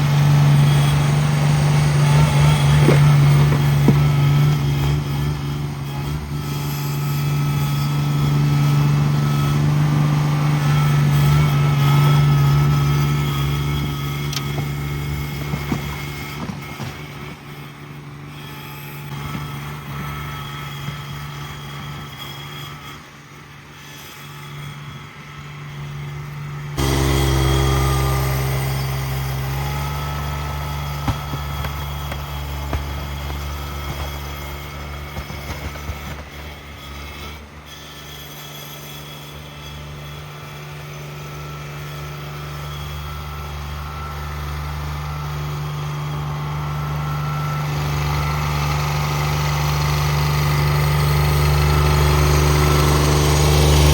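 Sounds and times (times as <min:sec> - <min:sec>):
garden tractor engine humming: 0:00.0 - 0:53.9.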